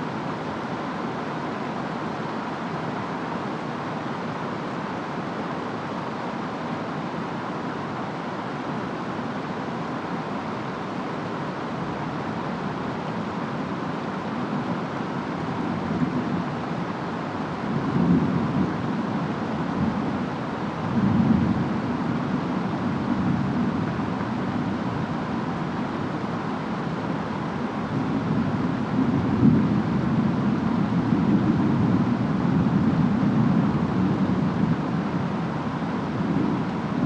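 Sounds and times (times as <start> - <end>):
steady rain: 0.0 - 37.0
wind: 0.0 - 37.0.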